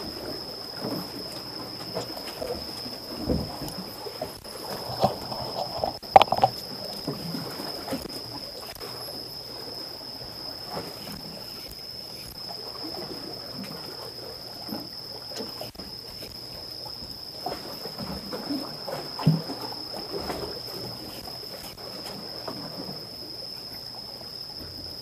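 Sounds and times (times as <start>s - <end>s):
water sloshing and lapping: 0.0s - 25.0s.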